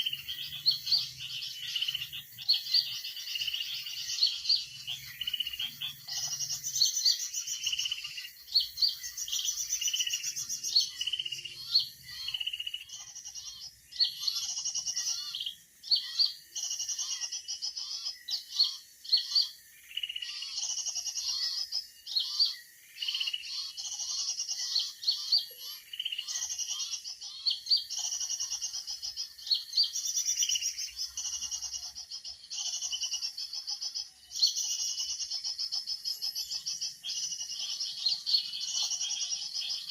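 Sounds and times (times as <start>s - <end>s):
bird calling high phrases: 0.0s - 39.9s
faint lower chirping: 0.0s - 39.9s.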